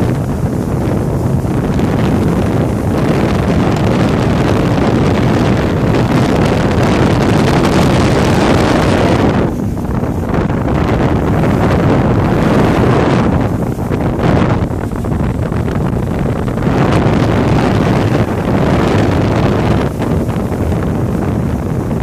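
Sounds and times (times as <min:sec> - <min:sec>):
motorboat motor: 0:00.0 - 0:22.0
water rushing under boat: 0:00.0 - 0:22.0
wind buffeting the microphone: 0:00.0 - 0:22.0.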